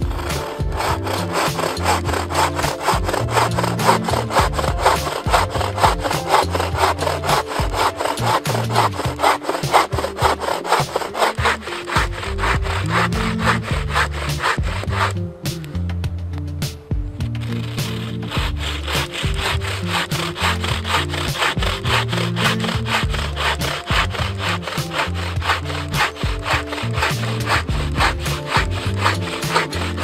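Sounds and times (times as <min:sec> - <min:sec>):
bow saw cutting log: 0:00.0 - 0:15.7, 0:17.3 - 0:30.0.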